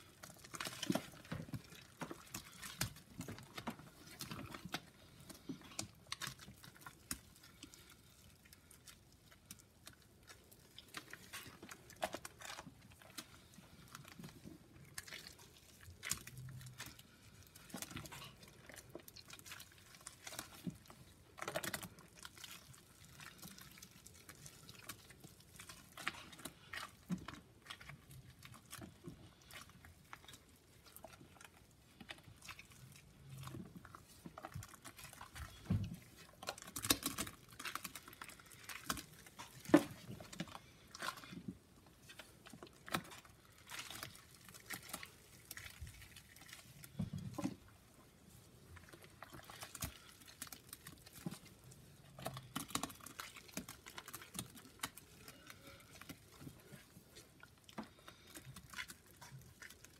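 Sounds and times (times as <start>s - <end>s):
small crunching crackles: 0.0s - 59.9s
wet paste squishing: 0.0s - 59.9s.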